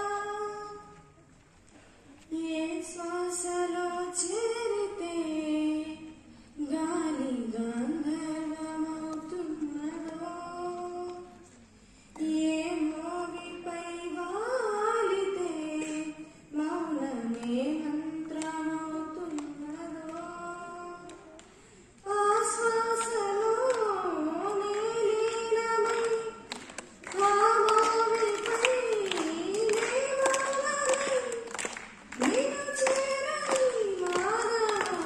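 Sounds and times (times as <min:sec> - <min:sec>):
girl singing unaccompanied: 0:00.0 - 0:01.2, 0:02.3 - 0:35.0.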